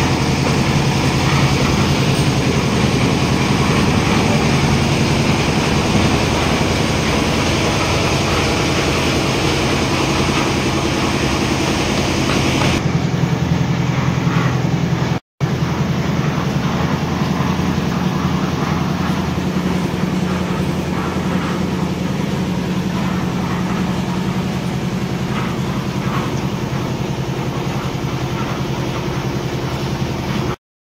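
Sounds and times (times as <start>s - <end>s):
low mechanical drone: 0.0s - 30.6s.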